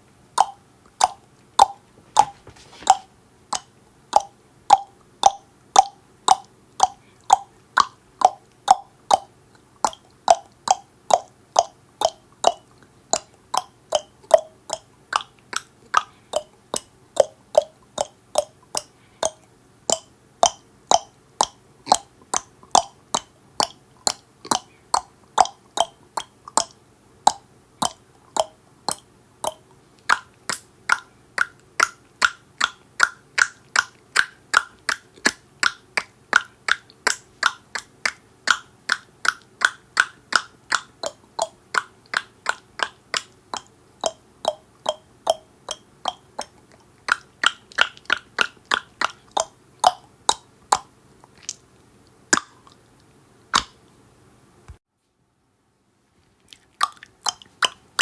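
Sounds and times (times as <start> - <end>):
tongue clicks: 0.3 - 51.7, 52.3 - 52.8, 53.5 - 53.8, 56.5 - 58.0.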